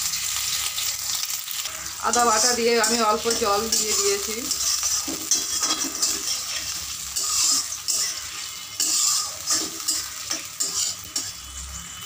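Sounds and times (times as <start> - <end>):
paste sizzling in hot oil: 0.0 - 12.0
metal spatula scraping pan: 2.1 - 12.0.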